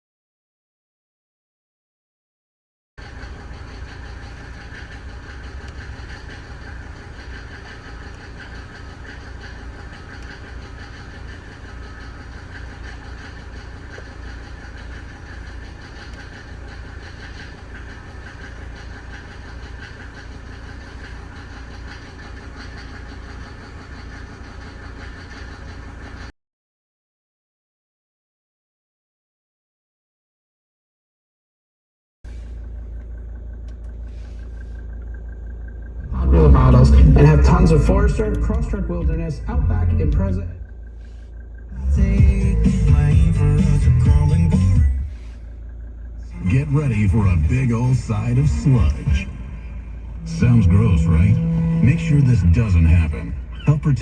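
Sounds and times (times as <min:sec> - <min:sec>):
diesel engine idling: 0:03.0 - 0:26.3, 0:32.3 - 0:54.0.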